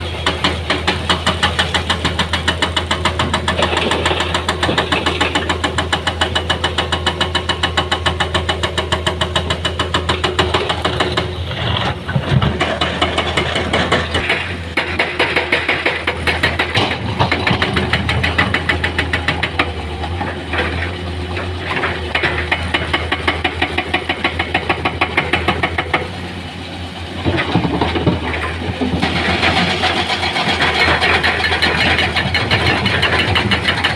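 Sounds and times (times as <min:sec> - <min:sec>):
heavy diesel engine pulsing: 0:00.0 - 0:33.9.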